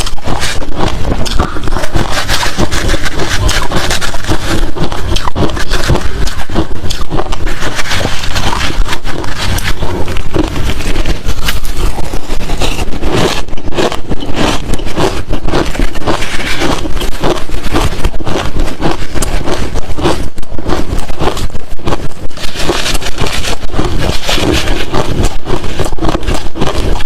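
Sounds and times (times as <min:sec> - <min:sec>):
person chewing crushed ice: 0:00.0 - 0:27.0.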